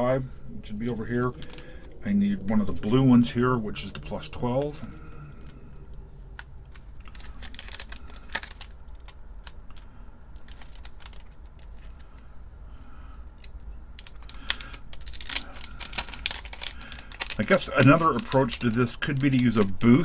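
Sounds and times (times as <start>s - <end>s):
plastic bag crinkling: 0.8s - 3.0s, 3.8s - 12.2s, 14.0s - 20.0s.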